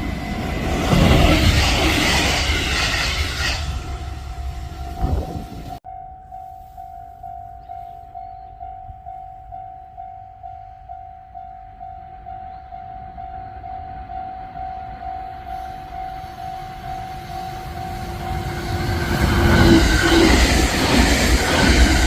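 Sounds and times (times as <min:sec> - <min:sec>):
level-crossing warning bell: 0:00.0 - 0:22.0
train rumble: 0:00.0 - 0:22.0.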